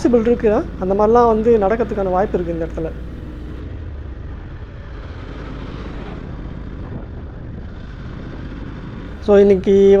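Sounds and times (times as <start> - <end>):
motorcycle running: 0.0 - 10.0
wind rushing over microphone: 0.0 - 10.0.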